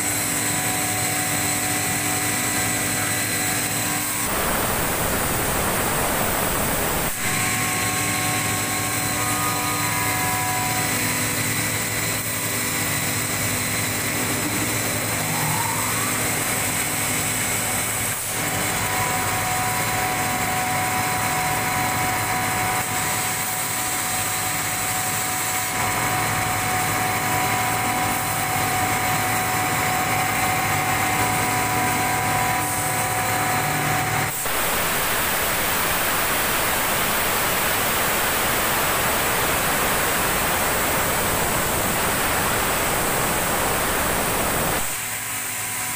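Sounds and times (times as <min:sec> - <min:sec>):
machine hum with whining tones: 0:00.0 - 0:45.9.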